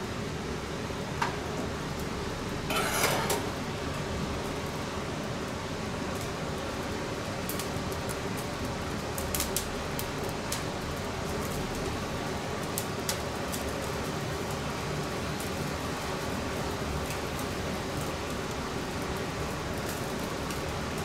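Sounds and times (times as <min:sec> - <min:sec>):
fire crackling: 0:00.0 - 0:21.0
straw fire rushing: 0:01.5 - 0:21.0.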